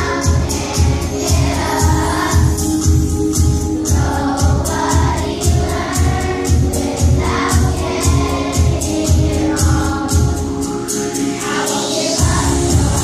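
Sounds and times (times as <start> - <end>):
steady drum beat: 0.0 - 10.9, 12.2 - 13.0
children's choir singing: 0.0 - 13.0.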